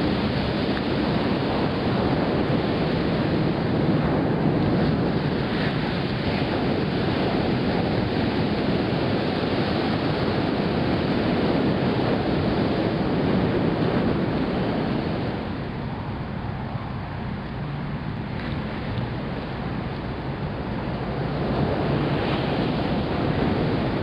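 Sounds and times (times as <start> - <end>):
ocean surf washing onto beach: 0.0 - 24.0
wind buffeting microphone: 0.0 - 24.0.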